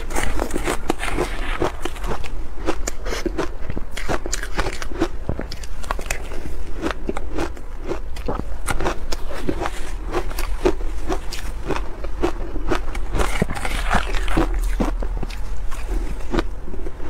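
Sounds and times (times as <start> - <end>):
ice being crunched and chewed: 0.0 - 17.0.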